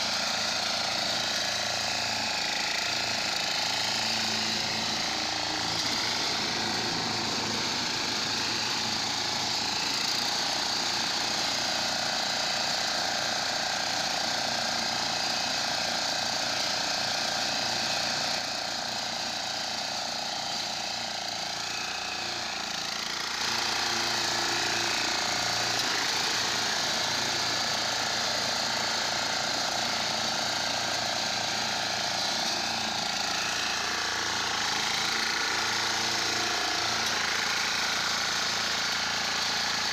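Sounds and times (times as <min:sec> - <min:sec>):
small engine droning: 0:00.0 - 0:39.9.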